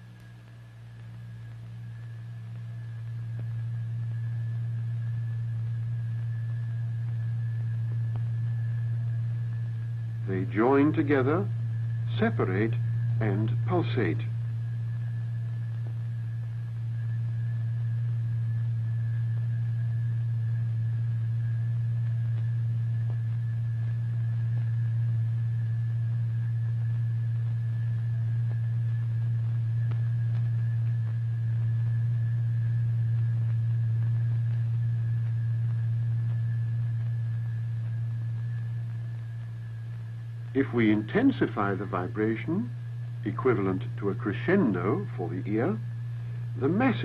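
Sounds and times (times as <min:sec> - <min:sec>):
steady low pure tone: 0:00.0 - 0:47.0.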